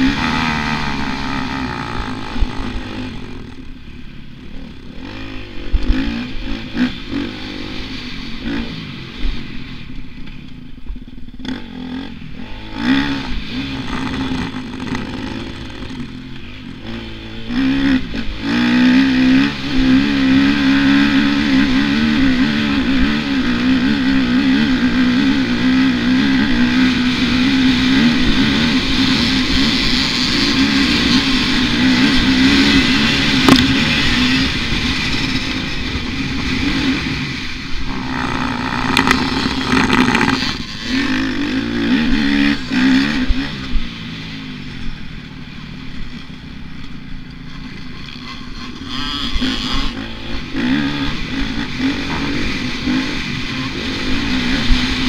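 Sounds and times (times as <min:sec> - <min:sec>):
motocross bike engine revving: 0:00.0 - 0:10.0, 0:11.0 - 0:55.0.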